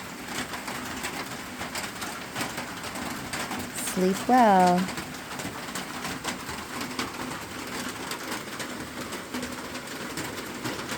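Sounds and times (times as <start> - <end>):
heavy rain on a metal roof: 0.0 - 10.9.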